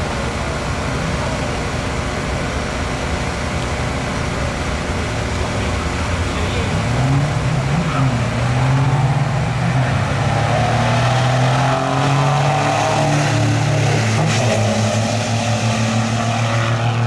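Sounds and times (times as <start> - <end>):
diesel trucks at full throttle: 0.0 - 17.0.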